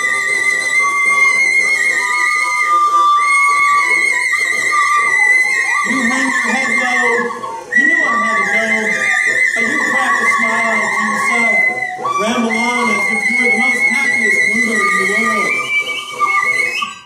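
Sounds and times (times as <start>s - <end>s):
violin and recorder: 0.0s - 17.0s.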